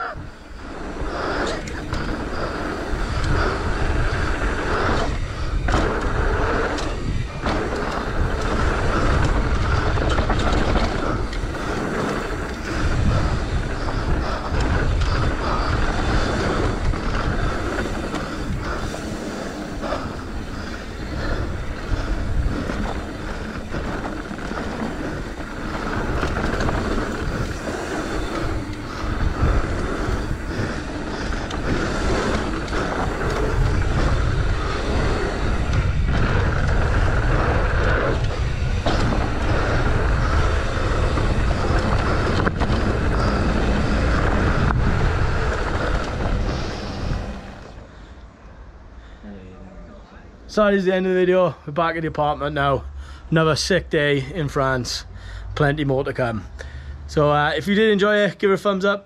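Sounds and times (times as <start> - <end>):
bike rattling over bumps: 0.0 - 48.2
tyres rolling over gravel: 0.0 - 48.2
wind rumbling on microphone: 0.0 - 48.9.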